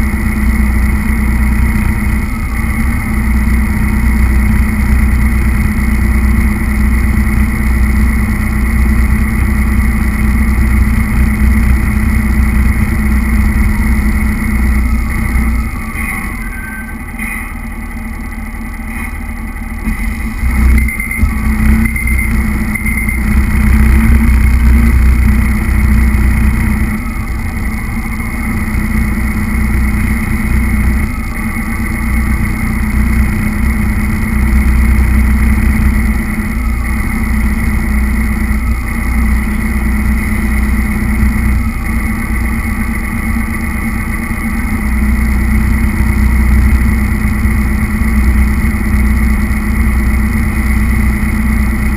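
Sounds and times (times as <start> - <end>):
toy truck motor whine: 0.0 - 51.9
wheels rumbling on tiles: 0.0 - 51.9.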